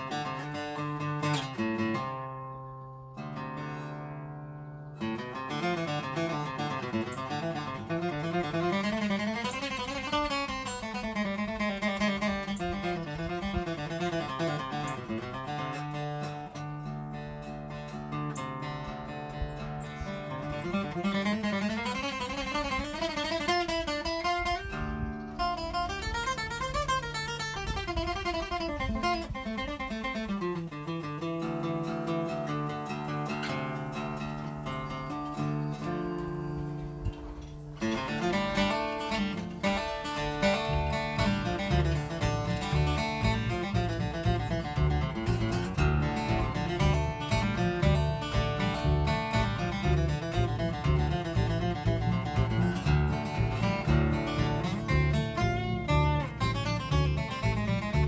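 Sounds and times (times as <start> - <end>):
acoustic guitar playing bluesy melody: 0.0 - 58.0.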